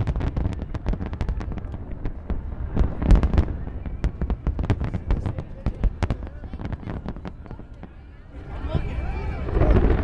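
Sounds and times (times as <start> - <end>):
fireworks booms: 0.0 - 10.0
fireworks crackling: 0.0 - 10.0.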